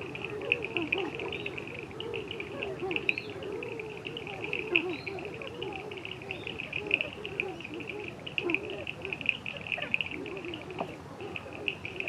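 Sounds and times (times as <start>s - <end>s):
birds making low short calls: 0.0s - 12.0s.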